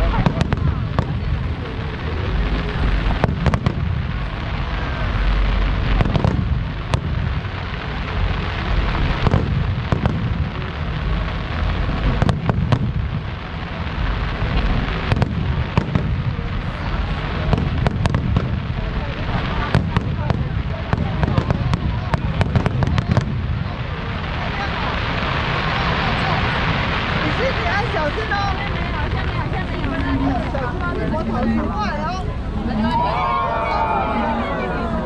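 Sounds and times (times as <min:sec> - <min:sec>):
rumble and crackle of fireworks: 0:00.0 - 0:35.0.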